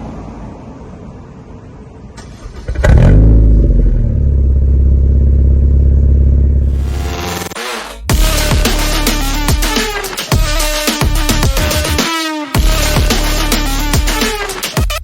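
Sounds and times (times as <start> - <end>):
car engine revving: 2.4 - 14.6.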